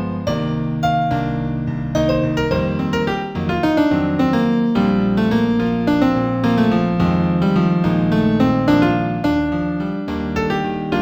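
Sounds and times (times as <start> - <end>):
piano-toned keyboard playing: 0.0 - 11.0.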